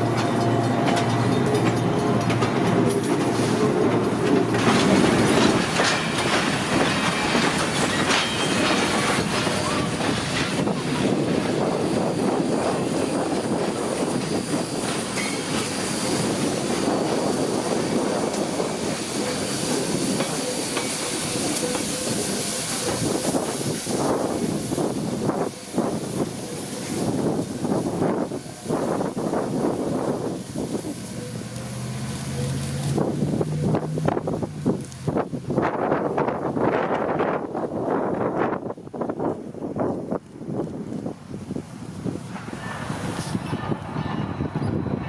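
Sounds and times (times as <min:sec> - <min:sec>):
wheels clicking over rail joints: 0:00.0 - 0:37.4
train wheels rolling on rail: 0:00.0 - 0:45.0.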